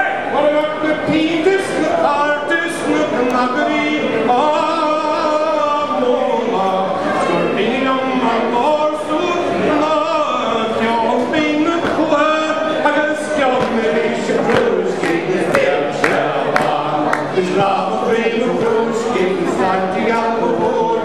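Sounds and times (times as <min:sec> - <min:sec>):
man singing unaccompanied: 0:00.3 - 0:21.0.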